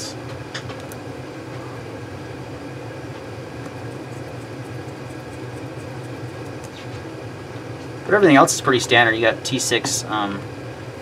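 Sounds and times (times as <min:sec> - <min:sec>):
furnace humming: 0:00.0 - 0:11.0.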